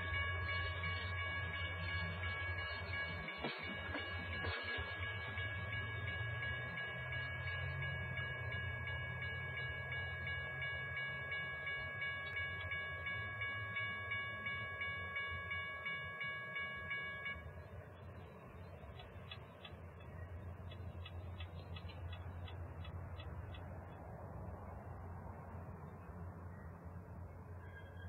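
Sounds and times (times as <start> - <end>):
railroad crossing bell ringing: 0.0 - 28.0
train cars rumbling past: 0.0 - 28.0.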